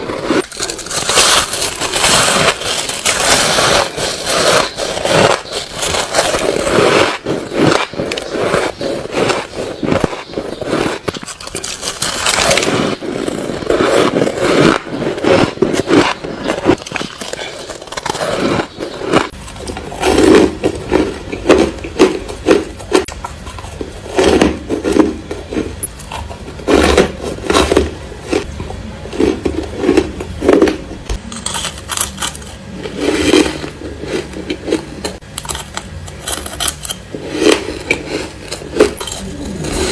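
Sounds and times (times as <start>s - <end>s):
chewing ice crunching: 0.0s - 28.5s, 29.1s - 39.9s.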